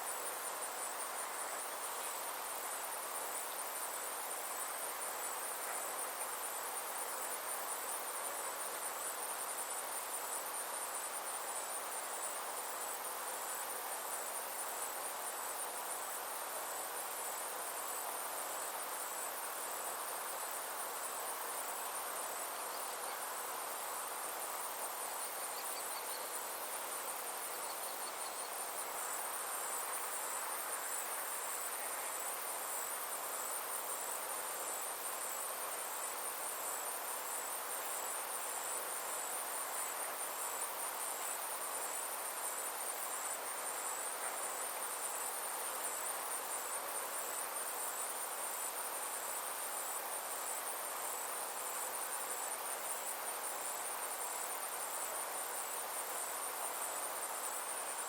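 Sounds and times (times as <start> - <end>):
insects trilling: 0.0 - 58.0
soft background hiss: 0.0 - 58.0.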